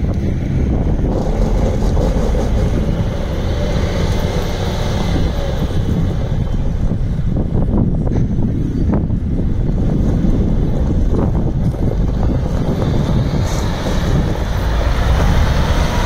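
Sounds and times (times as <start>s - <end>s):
truck diesel engine rumbling: 0.0s - 16.0s
wind buffeting microphone: 0.0s - 16.0s.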